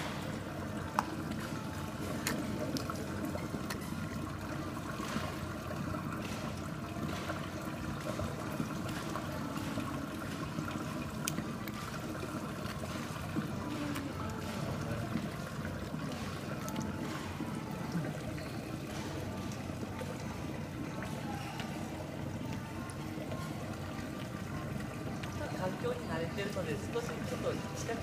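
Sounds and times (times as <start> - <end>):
water trickling into tank: 0.0 - 28.0.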